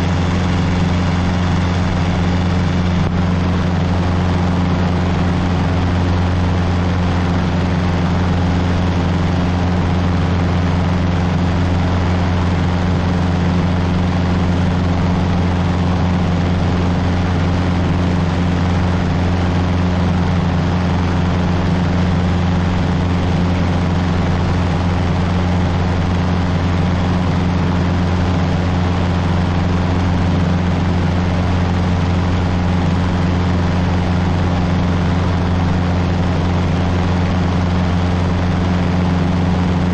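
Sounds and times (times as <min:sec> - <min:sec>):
airplane engine and propeller droning: 0:00.0 - 0:39.9.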